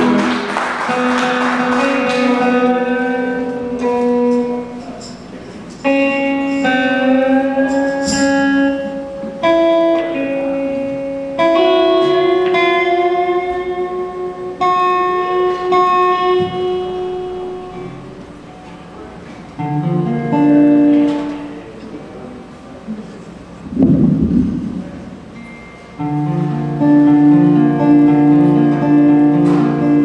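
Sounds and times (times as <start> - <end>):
guitar chords ringing: 0.0 - 21.9, 23.6 - 30.0.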